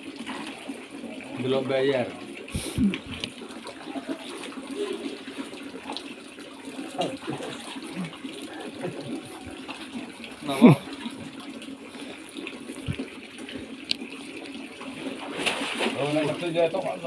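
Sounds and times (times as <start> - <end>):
water trickling in pond: 0.0 - 17.0.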